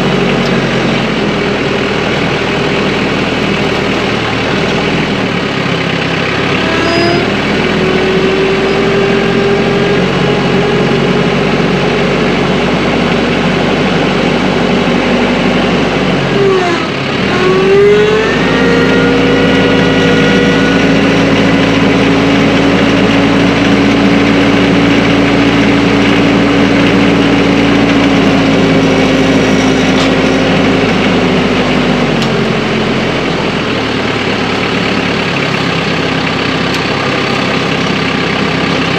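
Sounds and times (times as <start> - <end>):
tractor diesel engine revving: 0.0 - 38.9.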